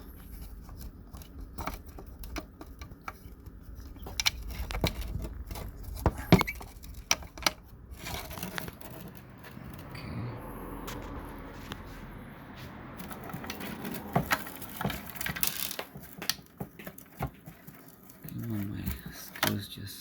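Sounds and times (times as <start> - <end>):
plastic clicks and rattles: 0.0 - 9.9, 13.0 - 19.6.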